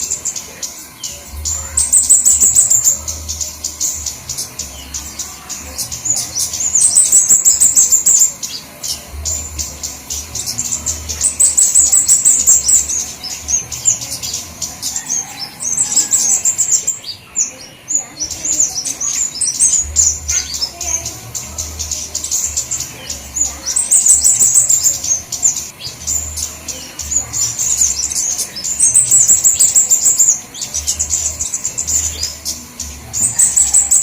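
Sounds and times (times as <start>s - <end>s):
birds chirping and twittering: 0.0s - 34.0s.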